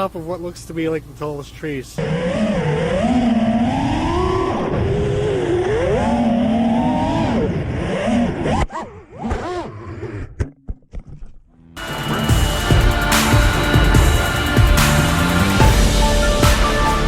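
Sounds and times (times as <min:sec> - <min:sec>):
drone motors whining: 0:02.0 - 0:10.5, 0:11.8 - 0:17.0.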